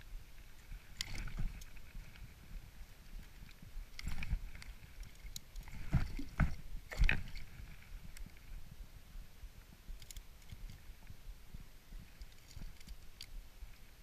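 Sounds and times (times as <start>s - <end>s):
low water noise: 0.0s - 14.0s.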